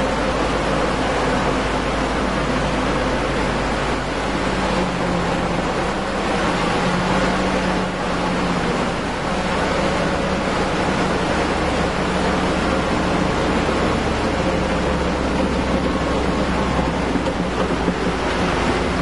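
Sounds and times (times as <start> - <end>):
low steady hum: 0.0 - 19.0
vehicle engine running: 0.0 - 19.0.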